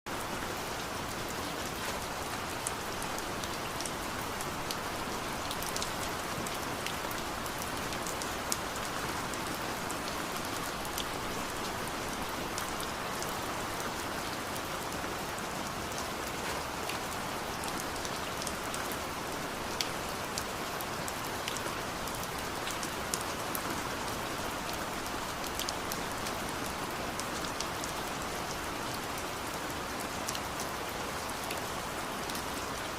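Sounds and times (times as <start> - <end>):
heavy rain falling: 0.1 - 32.9.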